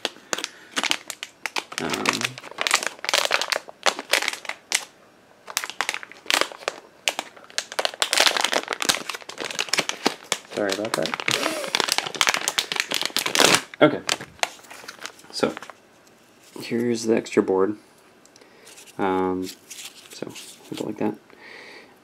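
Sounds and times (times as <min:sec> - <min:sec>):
plastic bag crinkling: 0:00.0 - 0:16.8, 0:18.6 - 0:21.0.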